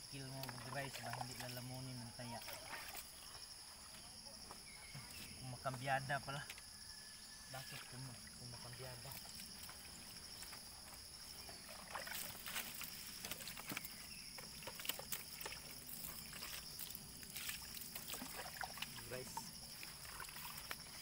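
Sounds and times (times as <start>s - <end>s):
high insect buzz: 0.0s - 21.0s.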